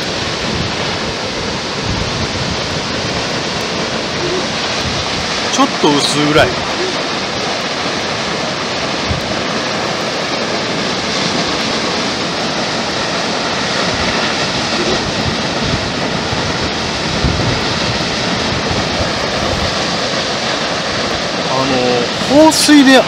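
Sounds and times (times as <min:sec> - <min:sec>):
water roaring from a dam: 0:00.0 - 0:23.0
wind buffeting microphone: 0:00.0 - 0:23.0.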